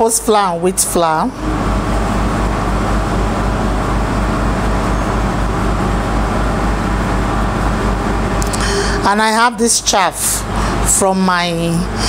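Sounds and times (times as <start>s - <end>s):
pulsing mechanical drone: 0.0s - 12.0s.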